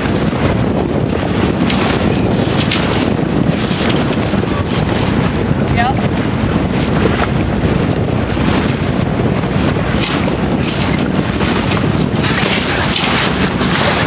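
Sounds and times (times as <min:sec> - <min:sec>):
choppy water rushing: 0:00.0 - 0:14.0
wind buffeting microphone: 0:00.0 - 0:14.0.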